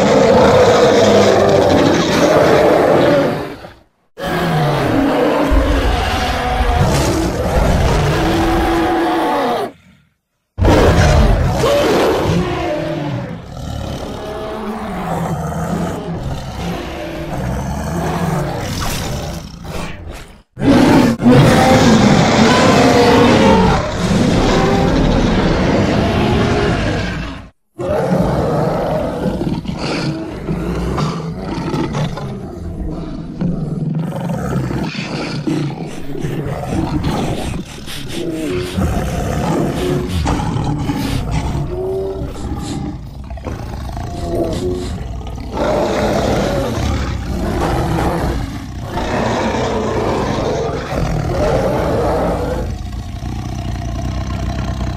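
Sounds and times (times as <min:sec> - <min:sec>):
creature roaring and growling: 0:00.0 - 0:10.0, 0:10.6 - 0:54.9.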